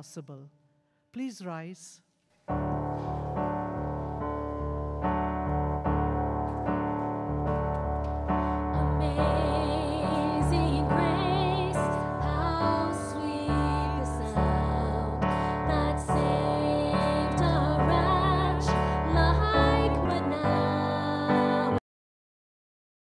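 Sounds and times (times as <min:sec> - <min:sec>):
electric keyboard chords: 0:02.5 - 0:21.8
wavering keyboard melody: 0:02.5 - 0:21.8.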